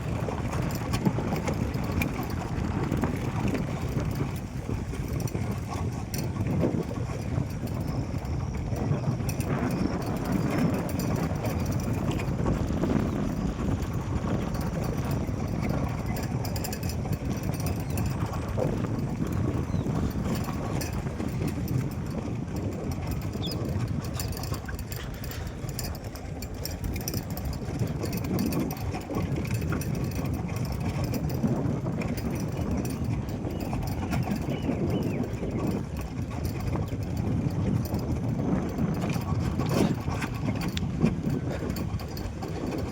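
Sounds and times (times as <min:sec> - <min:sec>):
vehicle rumbling on rough track: 0:00.0 - 0:42.9
wind buffeting microphone: 0:00.0 - 0:42.9.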